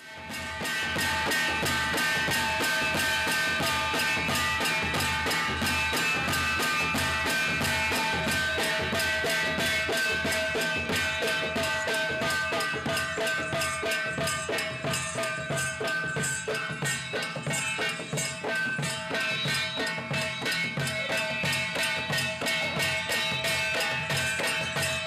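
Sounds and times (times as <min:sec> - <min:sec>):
small hand cymbals: 0:00.0 - 0:25.0
stick-beaten drum: 0:00.0 - 0:25.0
steady ringing tones: 0:00.1 - 0:25.0.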